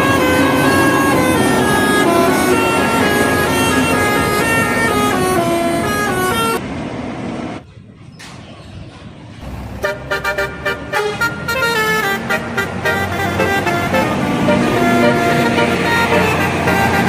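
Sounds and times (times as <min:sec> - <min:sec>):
musical air horn melody: 0:00.0 - 0:06.6, 0:09.8 - 0:17.0
traffic noise: 0:00.0 - 0:17.0.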